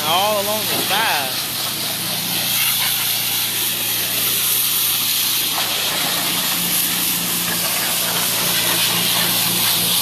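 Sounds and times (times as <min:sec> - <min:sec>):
pressure washer water jet hissing: 0:00.0 - 0:10.0.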